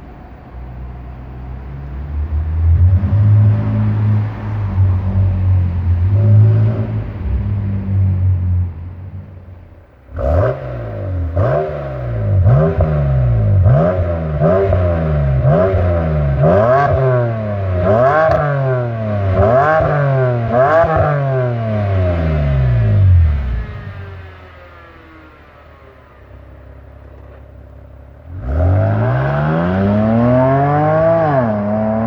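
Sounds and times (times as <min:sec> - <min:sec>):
car engine revving: 0:00.8 - 0:32.0.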